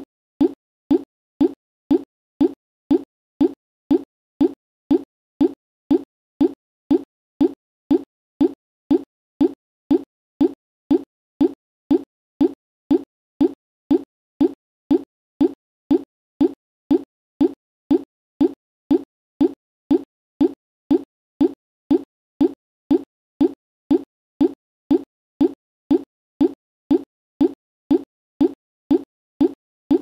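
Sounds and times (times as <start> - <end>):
low plop sound effect: 0.0 - 30.0.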